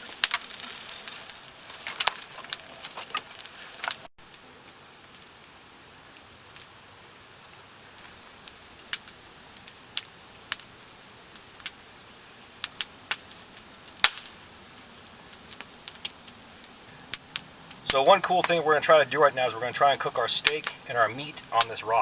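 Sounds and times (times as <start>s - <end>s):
campfire crackling: 0.0s - 22.0s
faint steady hiss: 0.0s - 22.0s.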